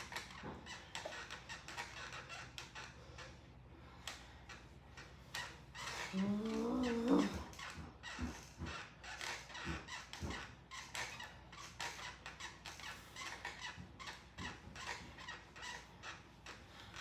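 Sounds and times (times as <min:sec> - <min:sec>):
exercise bike squeaking: 0:00.0 - 0:17.0.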